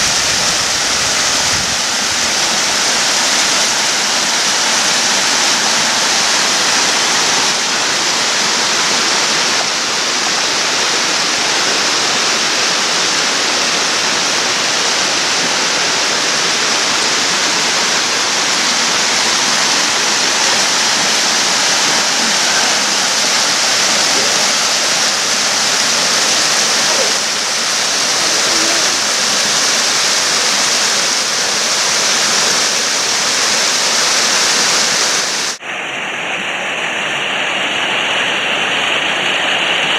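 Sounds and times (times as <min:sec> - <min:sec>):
rushing falling water: 0:00.0 - 0:39.9.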